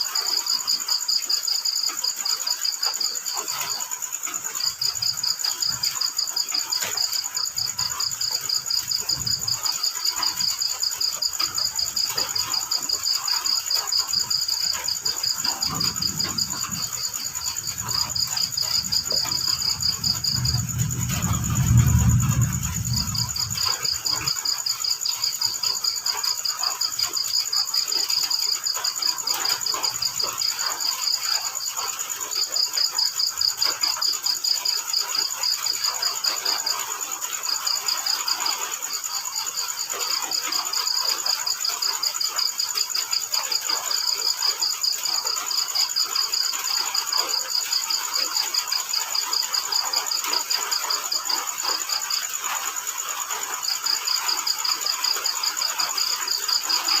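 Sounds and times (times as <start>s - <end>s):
crickets chirping: 0.0s - 57.0s
high insect trill: 0.0s - 57.0s.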